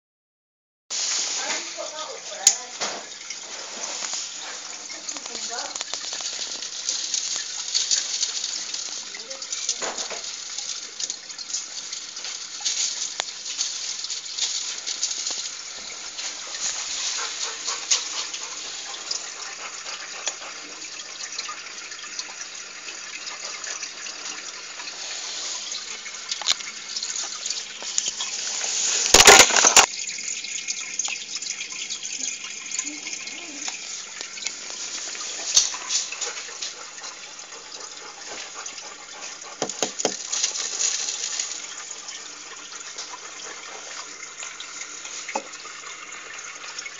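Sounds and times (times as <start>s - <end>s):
aquarium water trickling: 0.9s - 46.9s.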